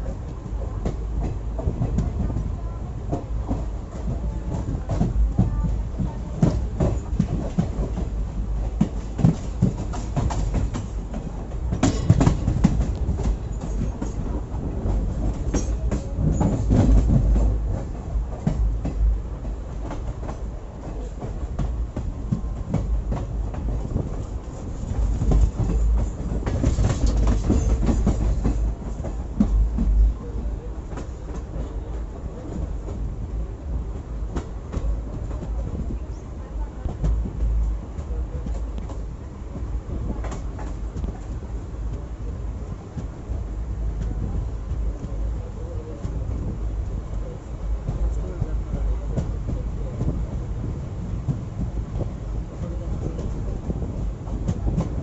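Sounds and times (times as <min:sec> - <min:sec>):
train coach rumble: 0:00.0 - 0:55.0.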